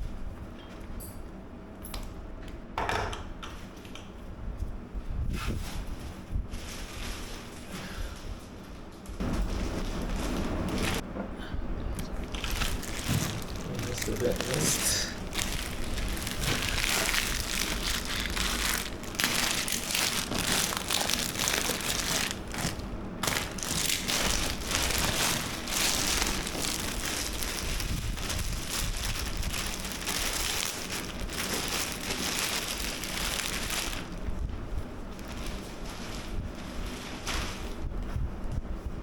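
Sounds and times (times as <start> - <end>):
plastic wrap crinkling: 5.5 - 11.0, 12.0 - 38.1.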